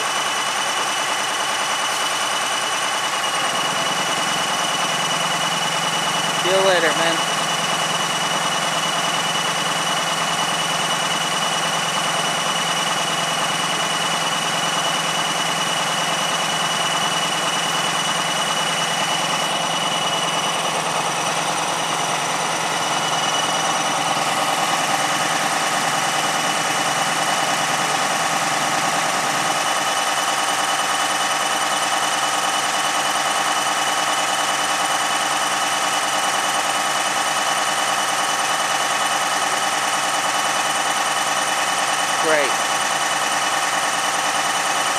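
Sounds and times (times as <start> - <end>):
diesel train engine idling: 0.0 - 44.9.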